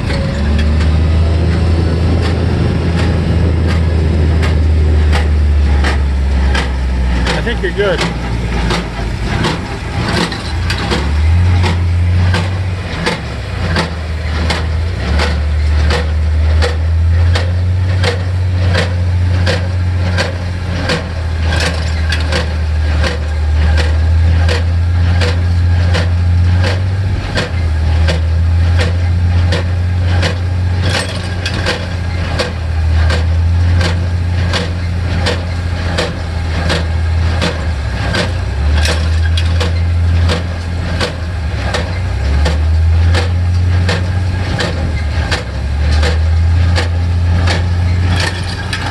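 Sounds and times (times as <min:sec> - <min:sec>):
tractor engine under load: 0:00.0 - 0:48.9.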